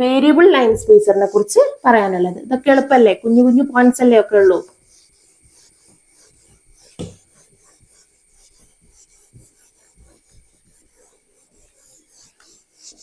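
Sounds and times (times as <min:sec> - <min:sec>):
faint scratching strokes: 0:00.0 - 0:13.0.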